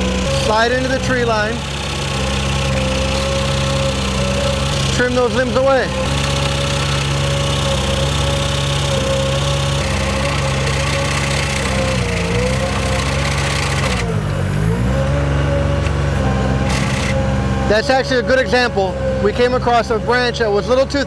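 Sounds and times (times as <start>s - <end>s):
boat engine hum: 0.0s - 21.0s
hydraulic cutter stalling: 0.0s - 21.0s.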